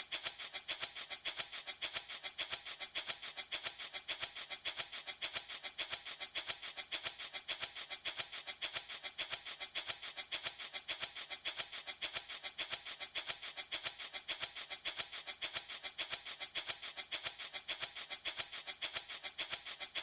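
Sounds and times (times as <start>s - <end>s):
baby rattle shaking: 0.0s - 20.0s.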